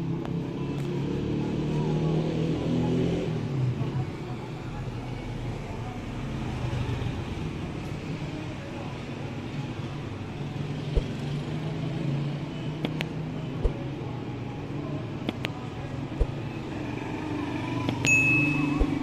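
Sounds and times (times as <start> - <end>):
car engines passing: 0.0 - 19.0.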